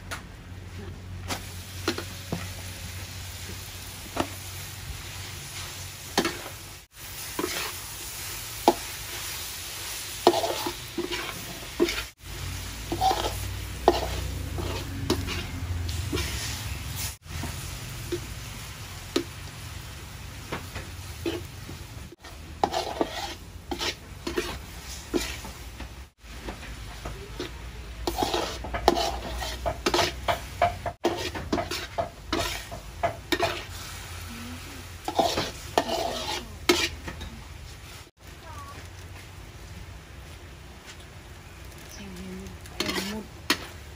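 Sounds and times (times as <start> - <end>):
food sizzling and bubbling: 0.0 - 43.9
metal spatula scraping wok: 1.2 - 19.6, 20.5 - 38.1, 42.6 - 43.9.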